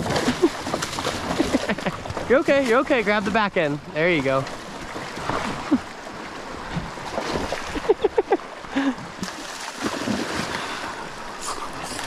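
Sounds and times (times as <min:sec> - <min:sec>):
river water over gravel: 0:00.0 - 0:12.0.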